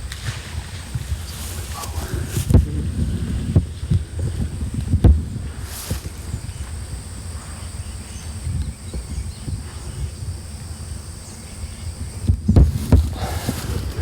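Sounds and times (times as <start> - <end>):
insects droning: 0.0 - 14.0
low microphone rumble: 0.0 - 14.0.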